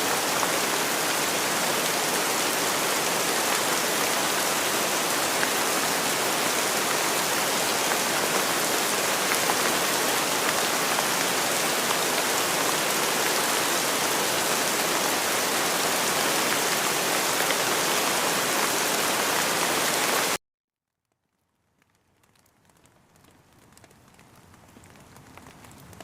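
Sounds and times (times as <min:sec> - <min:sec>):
rain falling: 0:00.0 - 0:20.4, 0:21.2 - 0:26.0.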